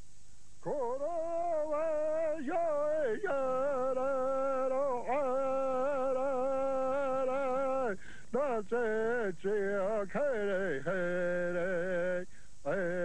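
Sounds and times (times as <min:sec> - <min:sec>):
man singing unaccompanied: 0:00.6 - 0:13.0.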